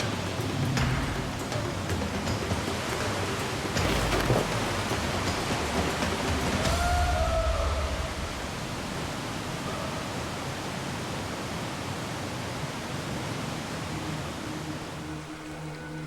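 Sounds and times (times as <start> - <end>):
river water rushing: 1.7 - 6.8, 7.7 - 16.0.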